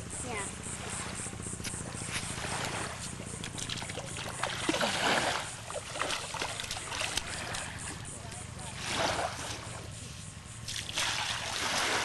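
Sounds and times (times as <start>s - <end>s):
water splashing and sloshing: 0.3s - 12.0s.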